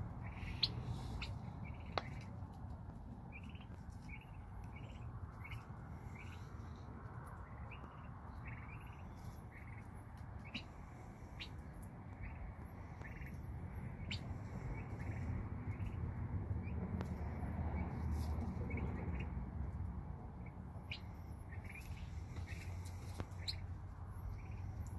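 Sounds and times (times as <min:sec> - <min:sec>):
low steady rumble: 0:00.0 - 0:24.9
young turkeys peeping: 0:00.0 - 0:24.9.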